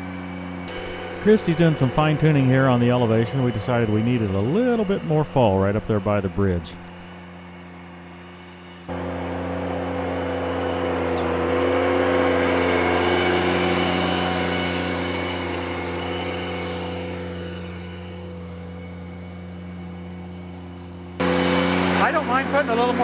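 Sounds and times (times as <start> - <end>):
power rake churning soil: 0.0 - 23.0
tractor engine under load: 0.0 - 23.0.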